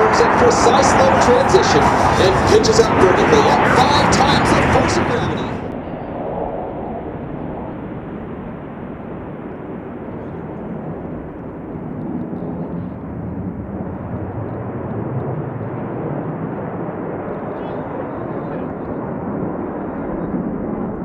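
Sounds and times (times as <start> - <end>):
jet engines taking off: 0.0 - 21.0.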